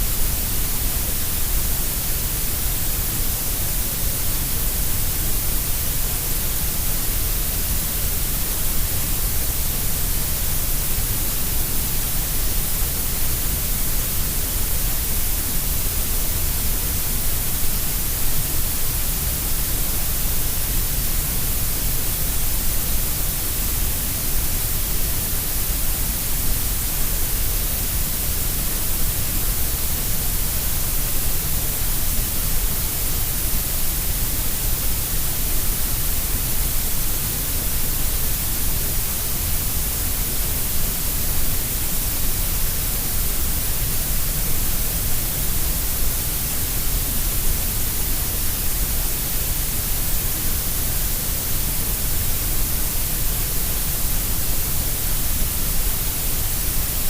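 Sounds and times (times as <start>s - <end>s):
grey noise hiss: 0.0s - 57.0s.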